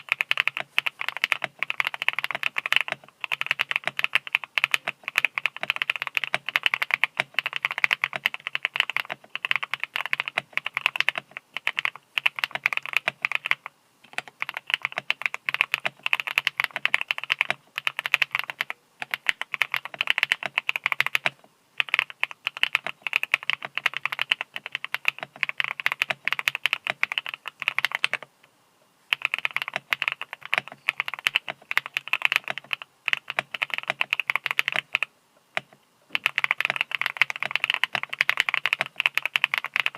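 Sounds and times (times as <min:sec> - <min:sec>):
fast typing on mechanical keyboard: 0:00.0 - 0:28.3, 0:29.1 - 0:39.9.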